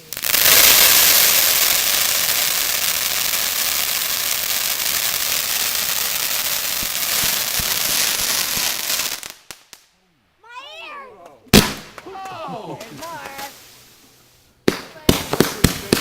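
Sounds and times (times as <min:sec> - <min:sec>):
firework crackling hiss: 0:00.0 - 0:09.9, 0:12.8 - 0:16.0.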